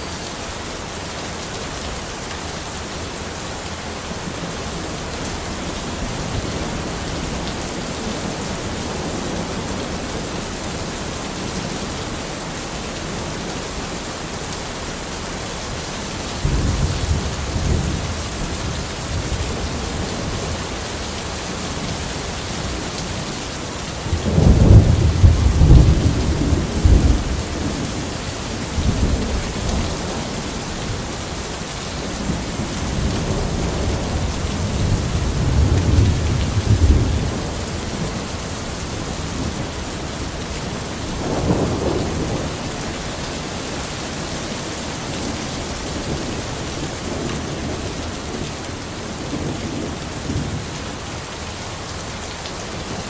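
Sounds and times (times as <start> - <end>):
steady rain in a forest: 0.0 - 53.0.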